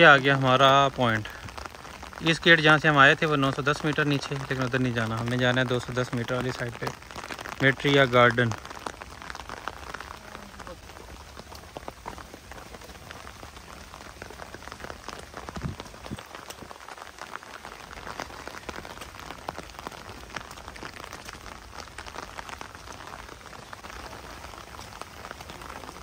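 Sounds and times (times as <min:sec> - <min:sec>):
steady rain with drop ticks: 0:00.0 - 0:26.0.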